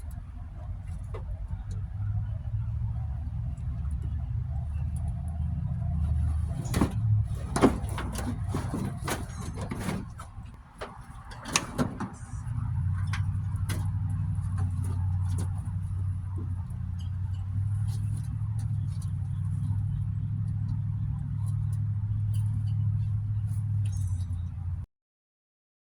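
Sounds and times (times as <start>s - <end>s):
knocks clunks and scraping: 0.0s - 24.8s
steady low rumble: 0.0s - 24.8s.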